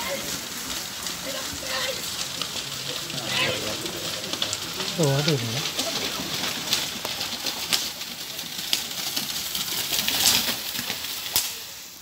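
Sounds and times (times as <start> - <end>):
muddy water splashing: 0.0 - 11.4
buffaloes galloping through water: 0.0 - 12.0.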